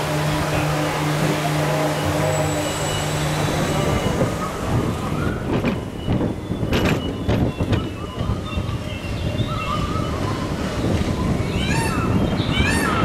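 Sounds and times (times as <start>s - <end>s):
roller coaster wheels rumbling: 0.0s - 13.0s.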